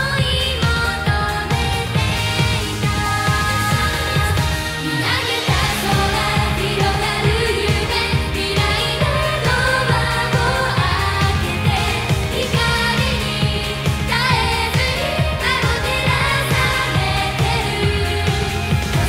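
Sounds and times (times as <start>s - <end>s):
backing track with drums and bass: 0.0s - 19.0s
young women singing pop: 0.0s - 19.0s.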